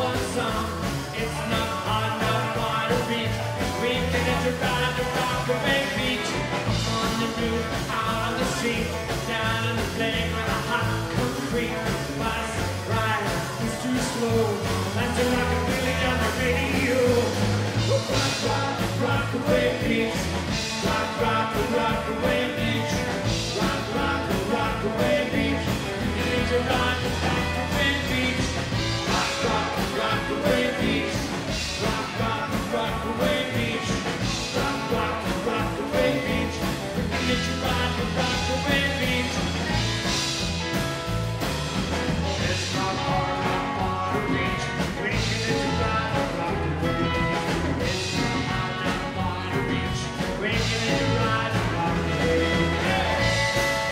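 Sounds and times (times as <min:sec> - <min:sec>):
acoustic guitar: 0:00.0 - 0:53.9
drum kit: 0:00.0 - 0:53.9
electric guitar: 0:00.0 - 0:53.9
upright double bass: 0:00.0 - 0:53.9.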